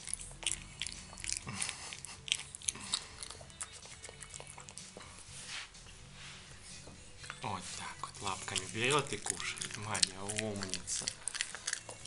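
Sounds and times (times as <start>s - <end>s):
raccoon chewing: 0.0s - 6.0s, 6.8s - 12.0s.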